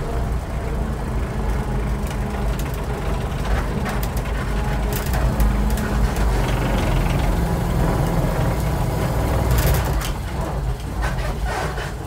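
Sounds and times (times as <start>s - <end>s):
engine running at low speed: 0.0s - 12.0s
sliding door rattling: 1.7s - 12.0s.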